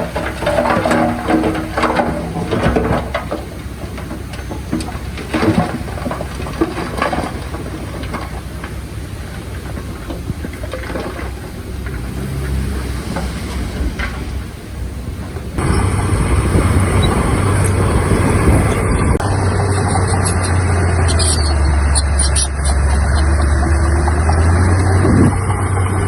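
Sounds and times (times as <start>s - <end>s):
heavy diesel engine running: 0.0s - 26.0s
metal clanks and squeaks: 0.0s - 26.0s.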